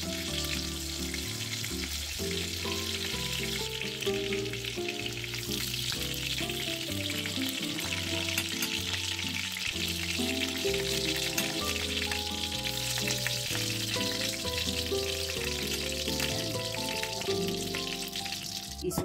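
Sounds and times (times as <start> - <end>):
cutlets sizzling in hot oil: 0.0 - 18.9
background music: 0.0 - 19.0.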